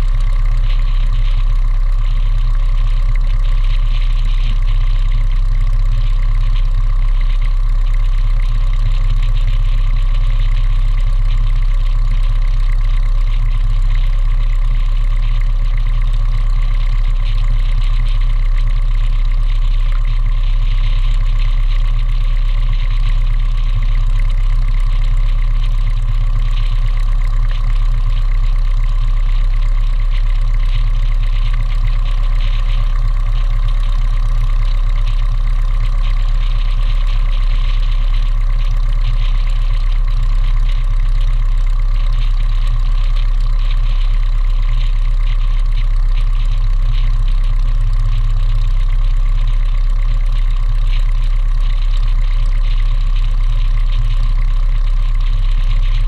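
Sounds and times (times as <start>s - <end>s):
light aircraft engine idling: 0.0s - 56.0s.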